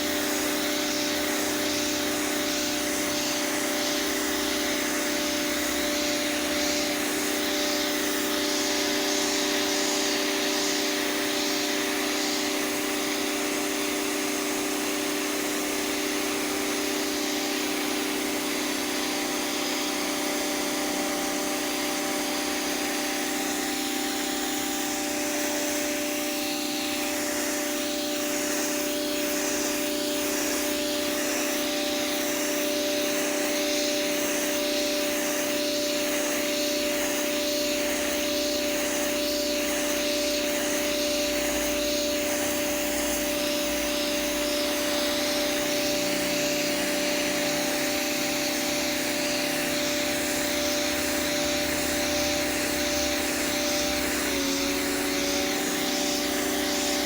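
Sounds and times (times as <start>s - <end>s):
pressure washer motor humming: 0.0s - 57.0s
water jet hissing: 0.0s - 57.0s.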